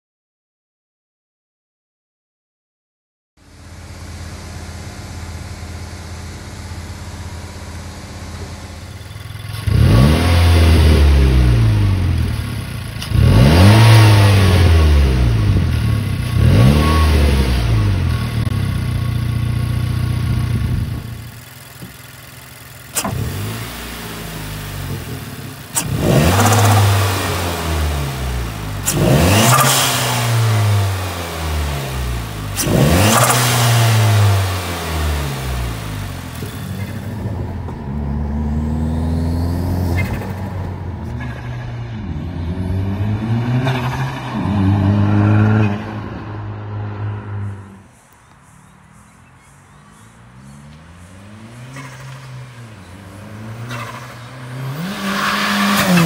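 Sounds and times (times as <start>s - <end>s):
car engine idling and revving: 3.4s - 56.0s.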